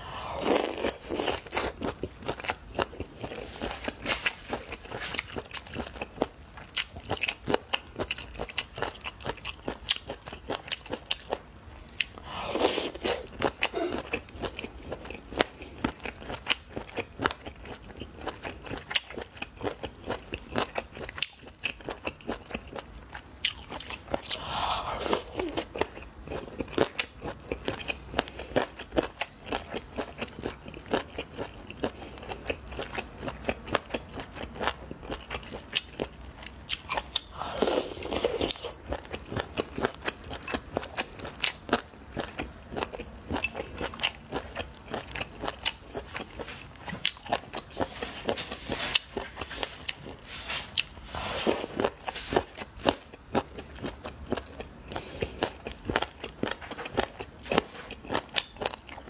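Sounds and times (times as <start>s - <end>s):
chewing and crunching: 0.3s - 59.0s.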